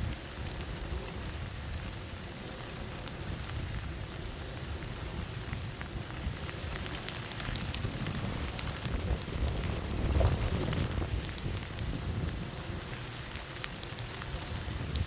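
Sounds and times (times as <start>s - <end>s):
raindrop ticks: 0.0s - 15.0s
storm wind gusting: 0.0s - 15.0s
wind rumble on microphone: 0.0s - 15.0s.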